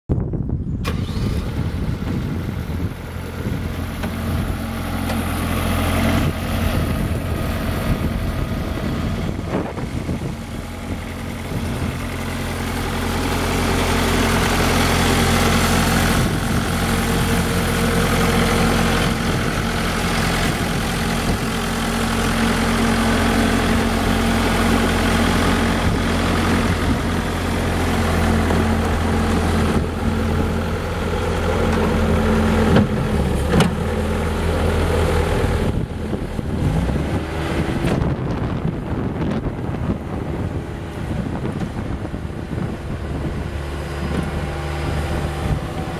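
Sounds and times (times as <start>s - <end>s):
diesel engine running: 0.2s - 45.9s.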